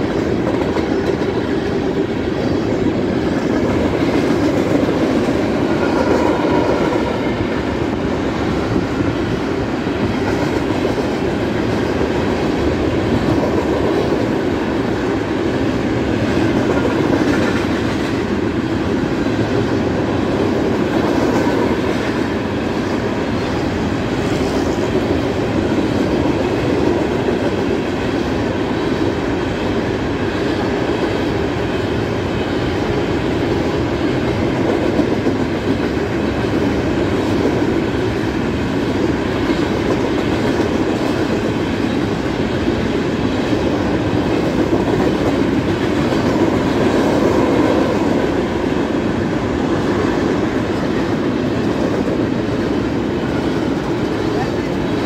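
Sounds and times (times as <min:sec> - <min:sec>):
freight train wheels clattering on rail: 0:00.0 - 0:55.0.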